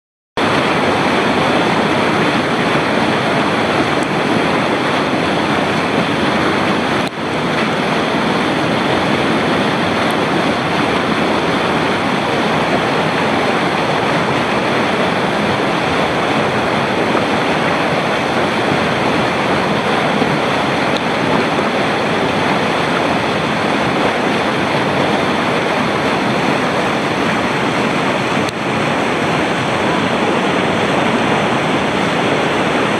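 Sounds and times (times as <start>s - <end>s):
whitewater rapids rushing: 0.4s - 32.9s.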